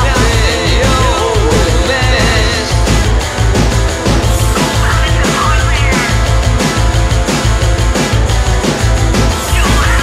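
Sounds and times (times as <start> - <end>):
post-punk rock music: 0.0 - 10.0.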